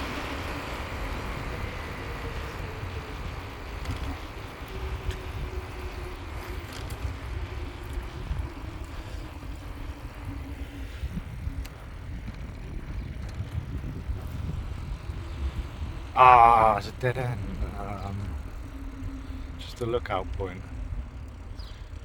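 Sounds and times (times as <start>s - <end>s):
bicycle rattling: 0.0s - 22.0s
wind rumbling on microphone: 0.0s - 22.0s.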